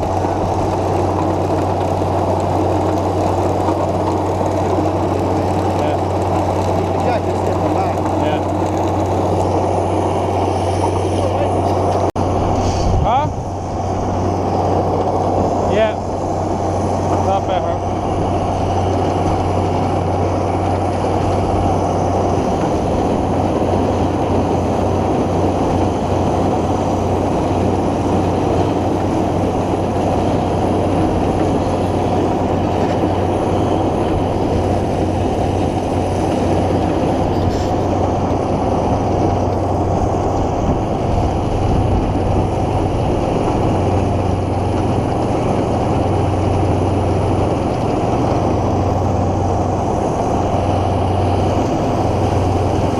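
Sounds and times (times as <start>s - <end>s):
machinery whine: 0.0s - 52.9s
tractor engine hum: 0.0s - 52.9s.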